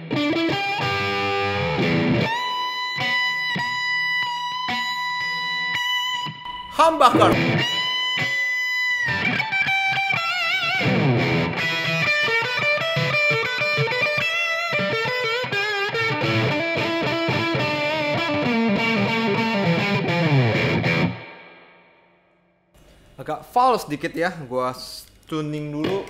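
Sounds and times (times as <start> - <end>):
electric guitar lead with bends: 0.1 - 21.6.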